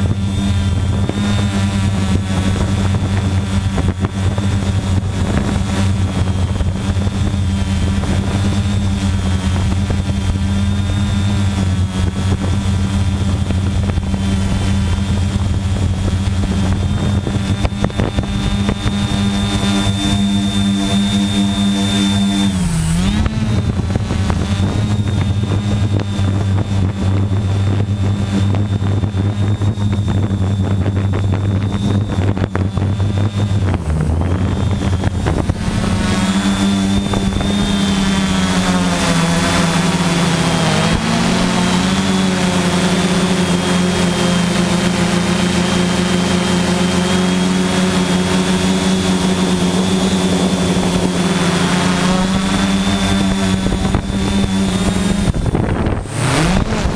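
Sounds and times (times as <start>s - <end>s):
drone motors and propellers whining: 0.0s - 56.9s.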